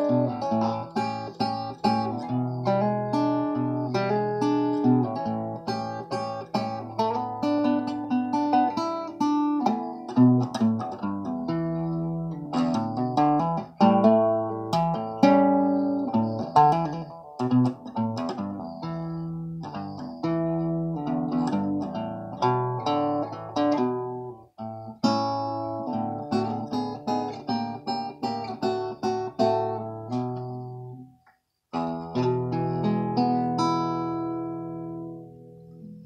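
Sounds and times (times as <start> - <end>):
resonator guitar blues fingerpicking: 0.0 - 36.0.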